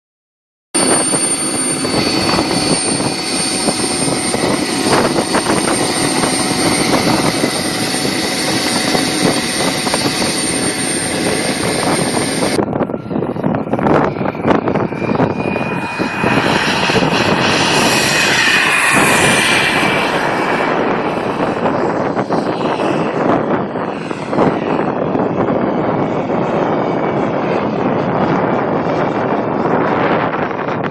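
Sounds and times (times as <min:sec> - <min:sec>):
model jet engine whine: 0:00.8 - 0:30.9.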